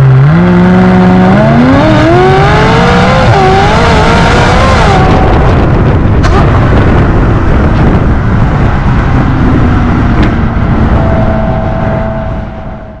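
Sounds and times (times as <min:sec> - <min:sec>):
sports car engine running loud: 0:00.0 - 0:13.0.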